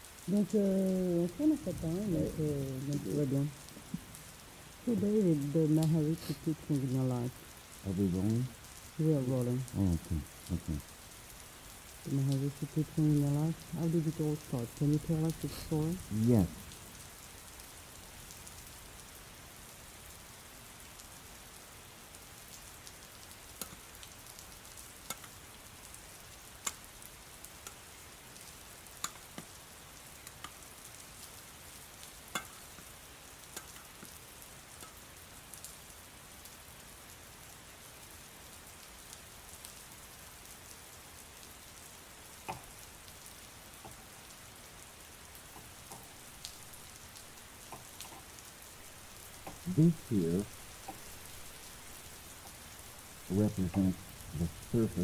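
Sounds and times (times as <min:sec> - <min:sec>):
single raindrops ticking: 0:00.0 - 0:55.0
soft rain hiss: 0:00.0 - 0:55.0.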